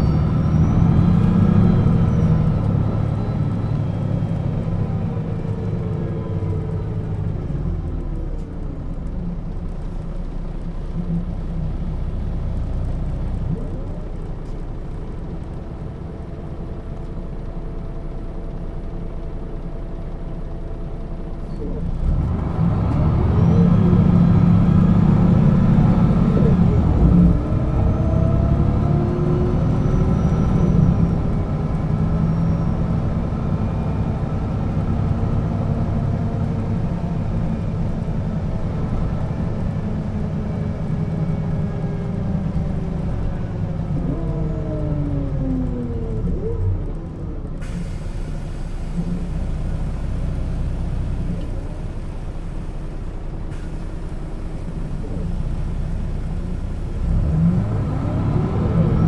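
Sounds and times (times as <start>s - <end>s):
bus diesel engine: 0.0s - 59.0s.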